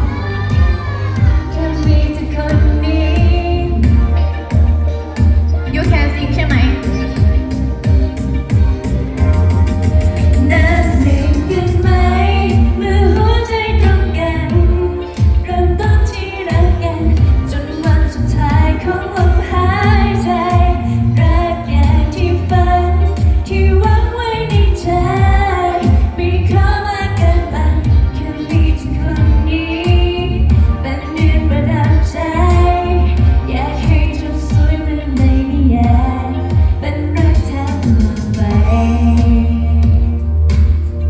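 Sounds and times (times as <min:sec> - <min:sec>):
woman singing pop ballad: 0:00.0 - 0:08.6, 0:09.2 - 0:41.0
band with bass and drums: 0:00.0 - 0:41.0.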